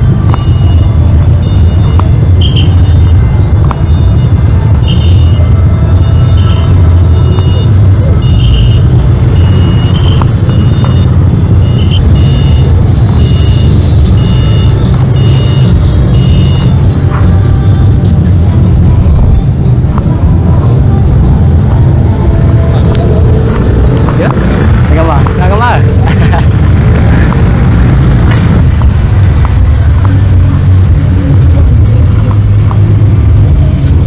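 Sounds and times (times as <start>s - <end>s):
low bass music: 0.0s - 34.0s.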